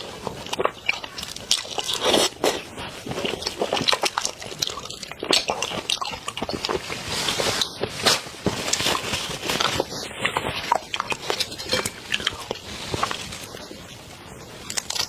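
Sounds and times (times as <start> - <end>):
crunching shrimp shell: 0.0 - 13.6, 14.6 - 15.0
wet chewing and mouth clicks: 0.0 - 15.0.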